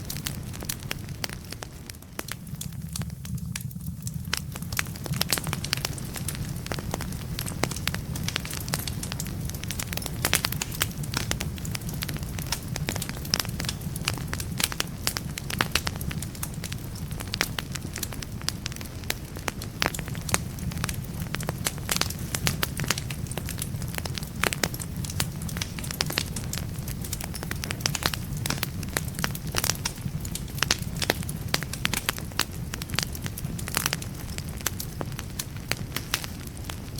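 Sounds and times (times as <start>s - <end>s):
fire rumbling: 0.0s - 36.9s
logs crackling and popping: 0.0s - 36.9s.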